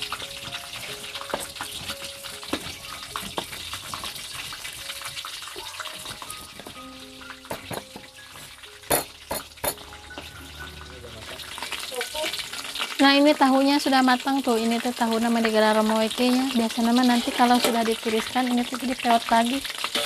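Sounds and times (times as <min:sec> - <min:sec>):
tofu sizzling in hot oil: 0:00.0 - 0:20.0.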